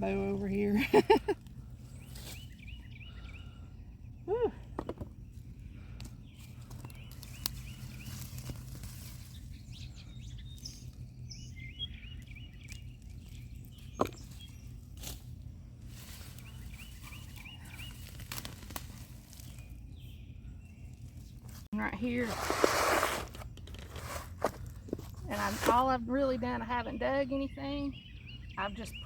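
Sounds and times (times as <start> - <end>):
low outdoor rumble: 0.0 - 29.0
songbird chirping: 0.0 - 29.0.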